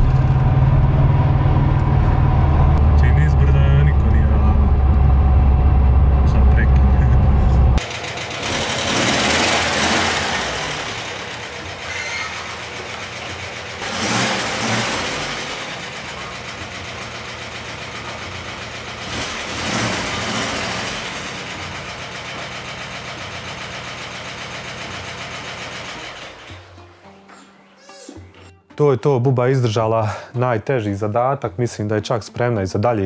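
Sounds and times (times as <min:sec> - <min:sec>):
car engine idling: 0:00.0 - 0:26.8.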